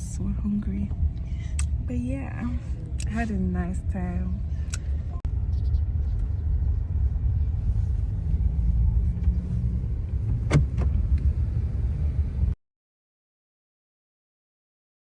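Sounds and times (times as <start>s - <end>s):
car driving rumble inside cabin: 0.0s - 12.6s.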